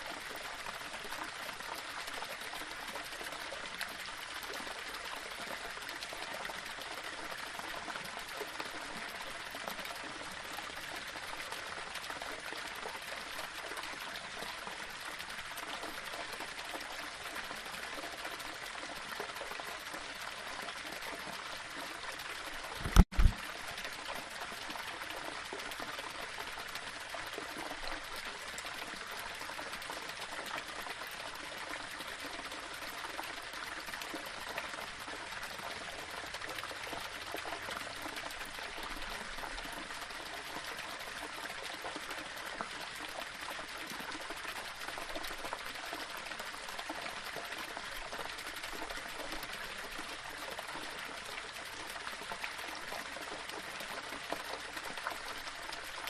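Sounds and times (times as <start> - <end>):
water trickling over rocks: 0.0 - 56.0.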